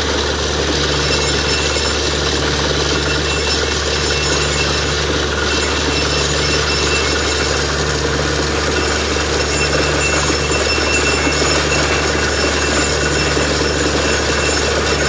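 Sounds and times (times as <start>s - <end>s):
drilling rig engine running: 0.0s - 15.0s.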